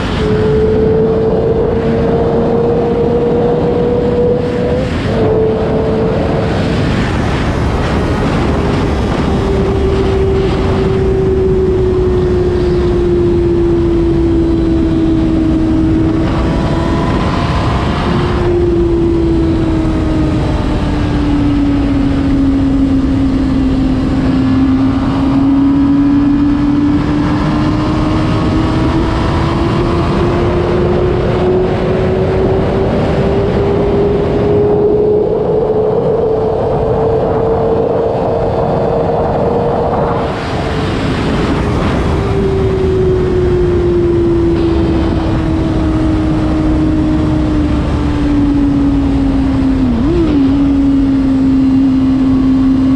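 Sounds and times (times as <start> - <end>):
motorcycle engine running: 0.0 - 52.9
wind rush: 0.0 - 52.9.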